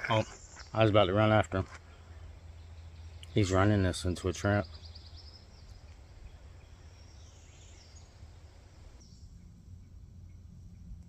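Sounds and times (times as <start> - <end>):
high chirps of birds or insects: 0.0 - 11.0
low rumble: 1.8 - 11.0.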